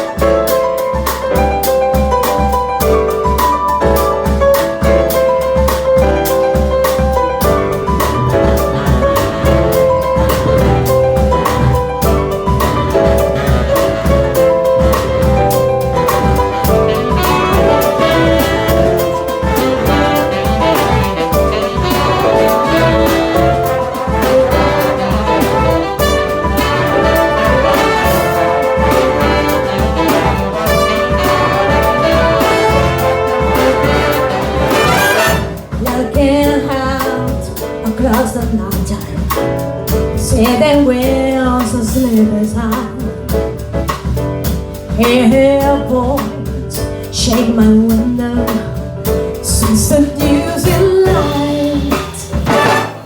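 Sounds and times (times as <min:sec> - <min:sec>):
big band jazz orchestra: 0:00.0 - 0:53.0.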